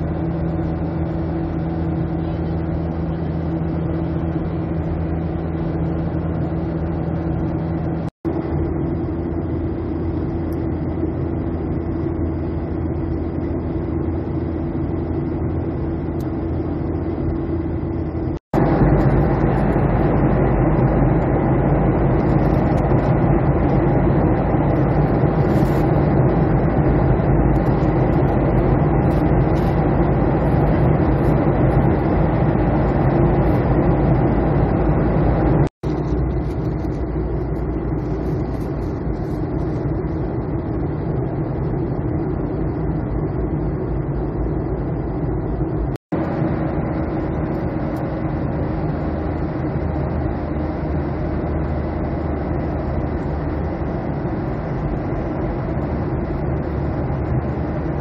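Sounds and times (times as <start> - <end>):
airliner cabin engine drone: 0.0 - 58.0
low hum: 0.0 - 58.0.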